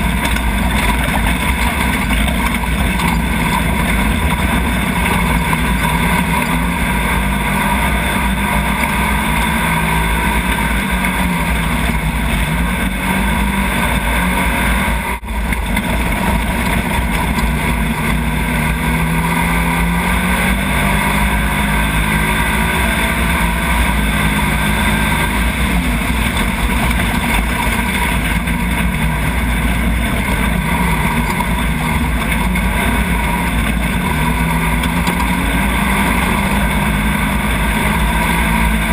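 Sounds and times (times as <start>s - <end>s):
racing engine running hard: 0.0s - 38.9s
wind and road noise: 0.0s - 38.9s.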